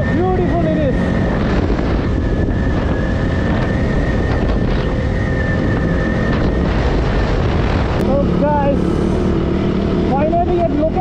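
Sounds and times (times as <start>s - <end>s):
high-pitched whine: 0.0s - 11.0s
motorcycle engine and road noise: 0.0s - 11.0s
wind buffeting microphone: 0.0s - 11.0s.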